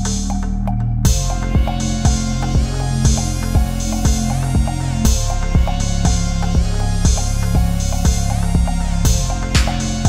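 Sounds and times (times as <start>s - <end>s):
electronic music with beat: 0.0s - 10.0s.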